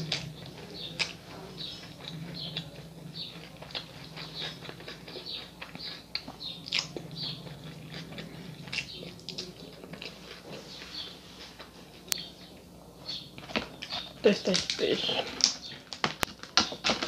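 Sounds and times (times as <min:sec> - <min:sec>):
close chewing smacks: 0:00.0 - 0:17.0
faint low hum: 0:00.0 - 0:17.0.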